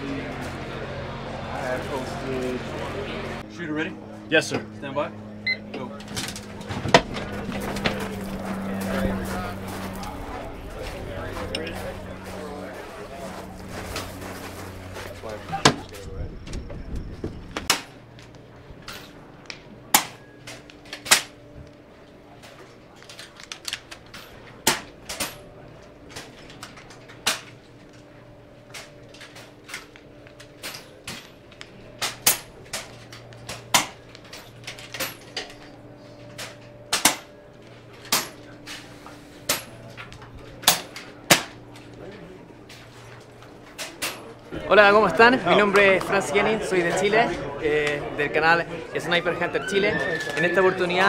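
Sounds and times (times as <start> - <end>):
steady low hum: 0.0 - 49.4.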